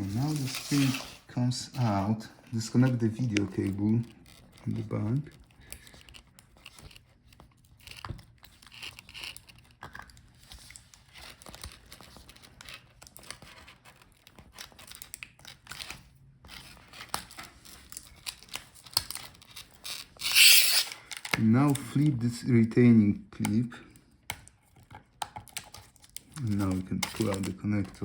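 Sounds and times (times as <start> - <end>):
crinkly rustles: 0.0 - 20.2, 25.6 - 28.0.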